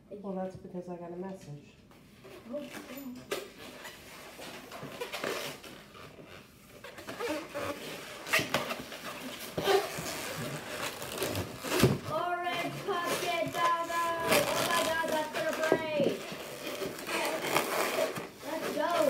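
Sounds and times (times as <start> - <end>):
balloons rubbing and squeaking: 2.2 - 19.0.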